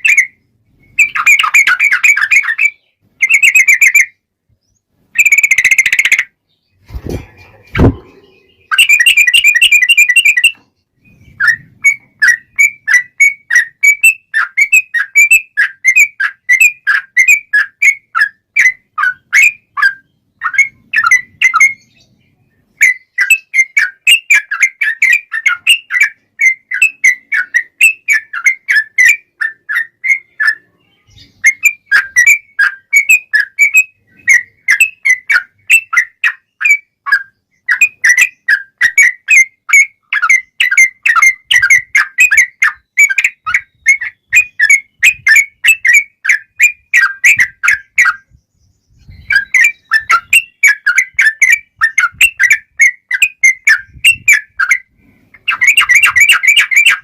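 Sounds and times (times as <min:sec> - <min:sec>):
bird singing rapid whistled notes: 0:00.0 - 0:57.0.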